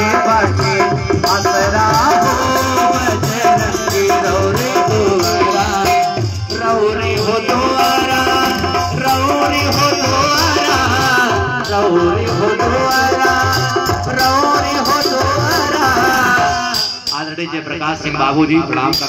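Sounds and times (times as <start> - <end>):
hand drum rhythm: 0.0 - 17.2.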